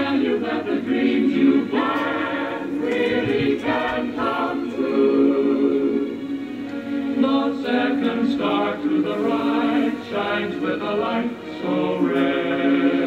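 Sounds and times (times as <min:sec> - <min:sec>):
voices singing held notes: 0:00.0 - 0:13.0.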